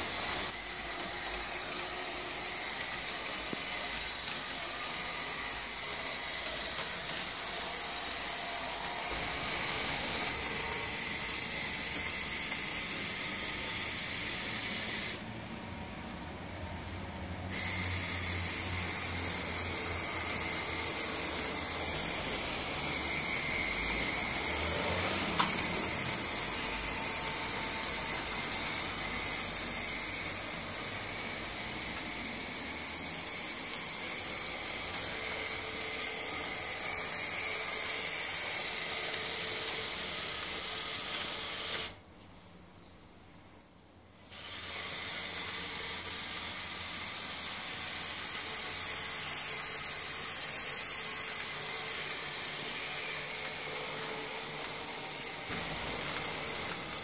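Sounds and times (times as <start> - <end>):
model tram whirring on rails: 0.0 - 42.0, 44.2 - 57.0.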